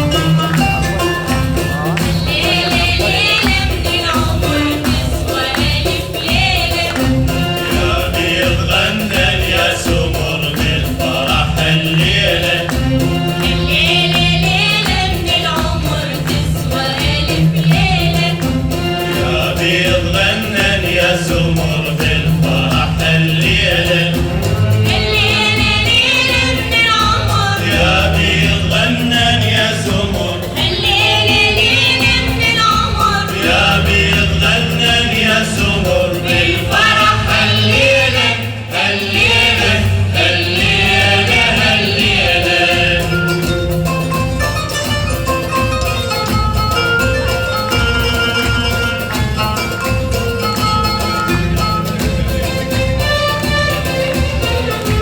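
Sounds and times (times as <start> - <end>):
instrumental accompaniment: 0.0 - 55.0
mixed choir singing in unison: 0.0 - 55.0
steady percussion beat: 0.0 - 55.0.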